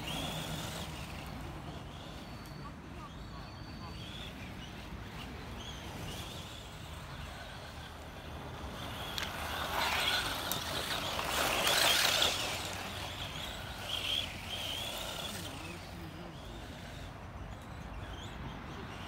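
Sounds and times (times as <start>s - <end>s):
electric rc car motor whirring: 0.0s - 19.0s.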